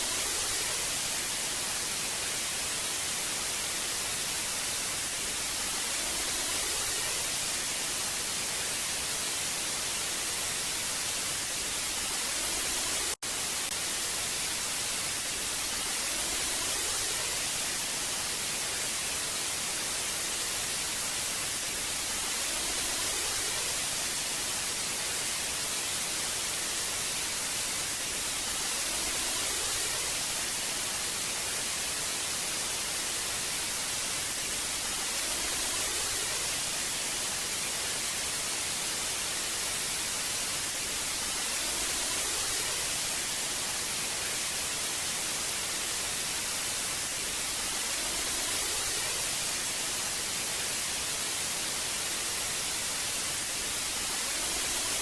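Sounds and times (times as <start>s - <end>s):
television static hiss: 0.0s - 55.0s.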